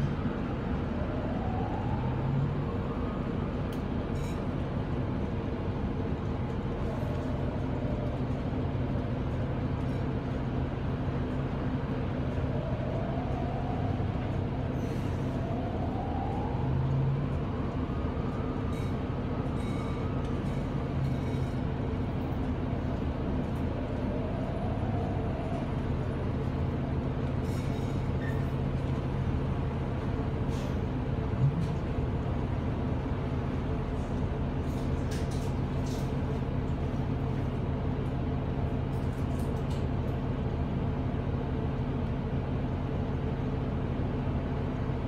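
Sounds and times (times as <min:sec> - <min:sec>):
bus engine running: 0:00.0 - 0:45.0.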